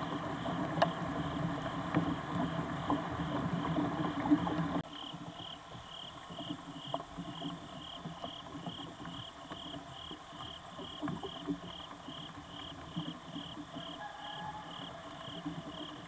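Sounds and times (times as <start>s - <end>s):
faint ticks and rustles: 0.0s - 16.0s
insect chirping: 2.4s - 16.0s.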